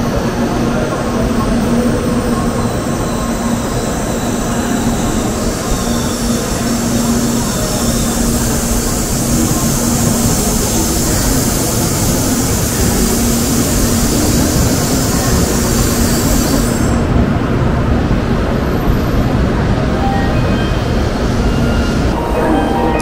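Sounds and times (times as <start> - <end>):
high-speed train rushing: 0.0 - 23.0.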